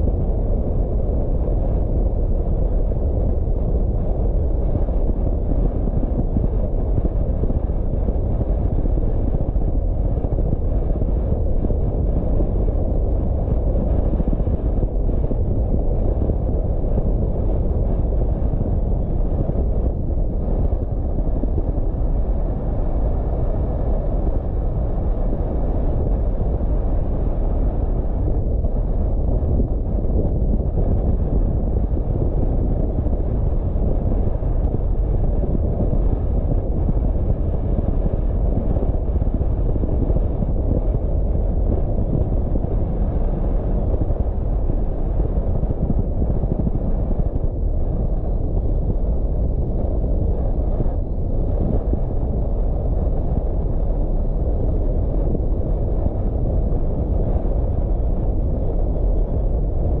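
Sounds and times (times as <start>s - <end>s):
car road and wind noise: 0.0s - 60.0s.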